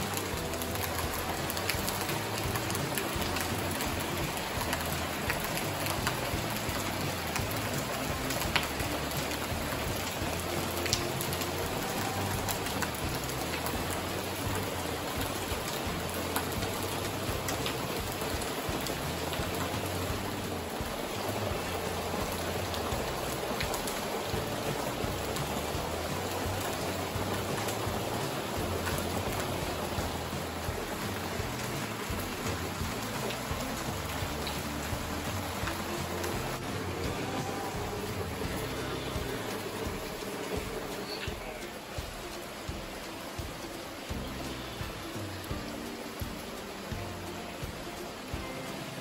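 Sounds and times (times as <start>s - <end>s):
rain on leaves and a metal roof: 0.0s - 49.0s.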